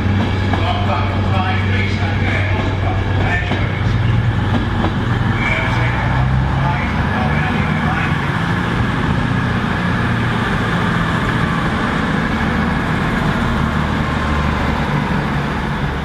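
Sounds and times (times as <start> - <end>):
diesel train engines droning: 0.0 - 16.0.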